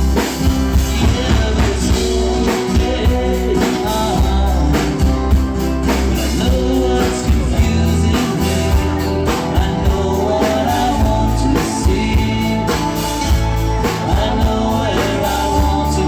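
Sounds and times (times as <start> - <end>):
drum beat: 0.0 - 16.0
electric guitar: 0.0 - 16.0.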